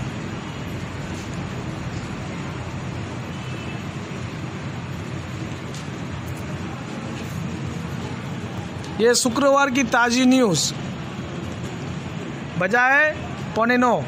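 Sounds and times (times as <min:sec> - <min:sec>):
street ambience low rumble: 0:00.0 - 0:14.0.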